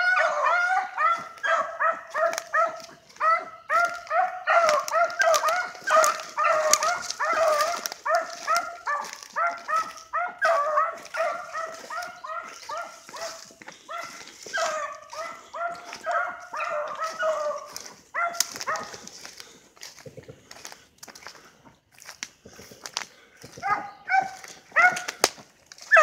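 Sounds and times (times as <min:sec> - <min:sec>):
dogs baying: 0:00.0 - 0:20.8, 0:22.5 - 0:25.2, 0:25.8 - 0:26.0
crackles: 0:01.4 - 0:26.0.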